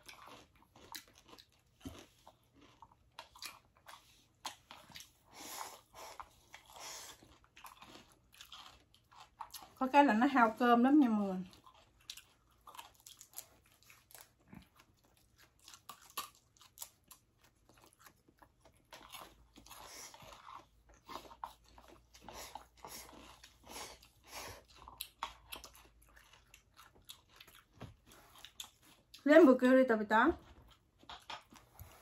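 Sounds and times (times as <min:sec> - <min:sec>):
chewing crisp raw vegetables: 0:00.0 - 0:32.0.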